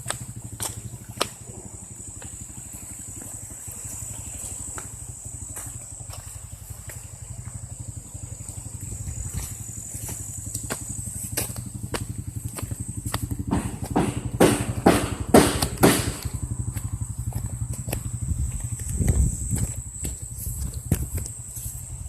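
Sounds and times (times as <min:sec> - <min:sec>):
pulsing engine hum: 0:00.0 - 0:22.0.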